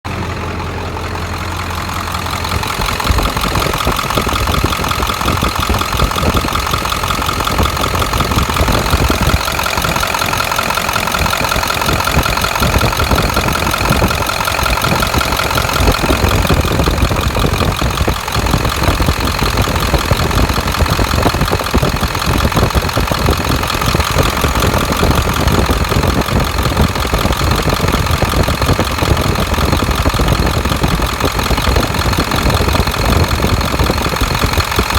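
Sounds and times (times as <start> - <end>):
engine idling: 0.0 - 34.9
fast even ticking: 1.6 - 34.9.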